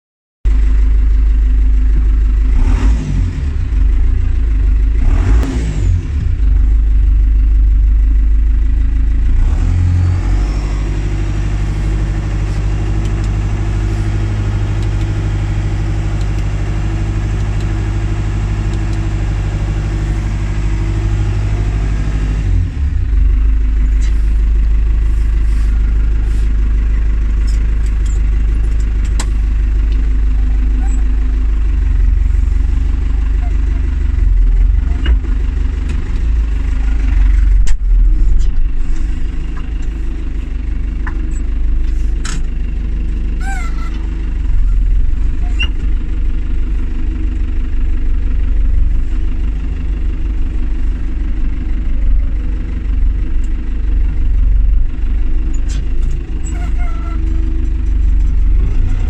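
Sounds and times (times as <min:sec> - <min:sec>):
tractor diesel engine revving: 0:00.7 - 0:59.0.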